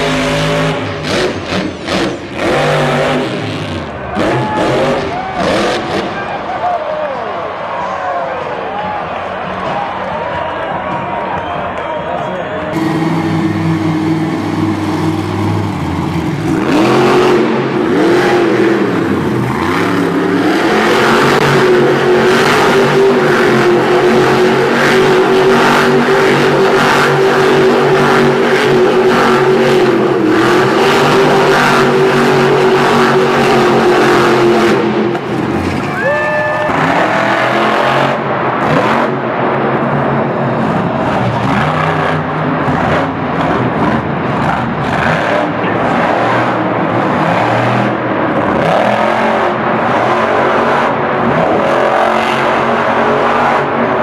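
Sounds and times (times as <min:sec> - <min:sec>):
truck engine revving hard: 0:00.0 - 0:06.7, 0:12.7 - 0:54.0.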